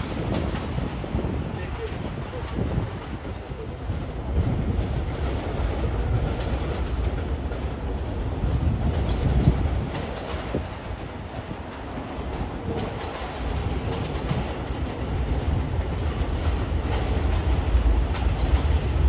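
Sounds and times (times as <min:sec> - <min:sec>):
subway train rumbling past: 0:00.0 - 0:19.0.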